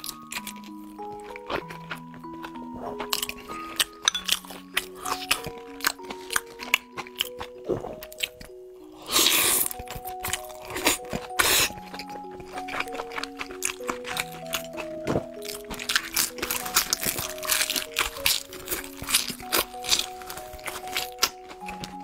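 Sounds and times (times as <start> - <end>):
background music: 0.0 - 22.0
wet chewing clicks: 0.0 - 22.0.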